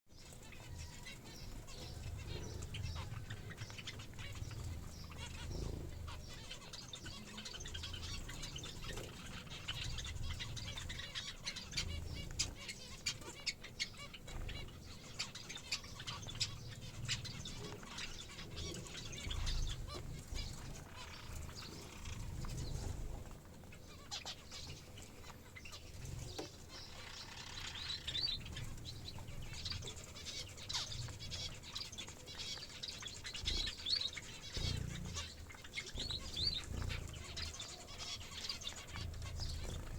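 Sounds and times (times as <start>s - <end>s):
small birds chirping: 0.1s - 39.9s.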